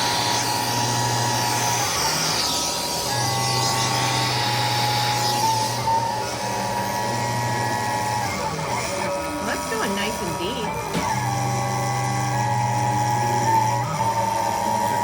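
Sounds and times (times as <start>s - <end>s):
motor whine shifting pitch: 0.0s - 15.0s
router spindle carving wood: 0.0s - 15.0s.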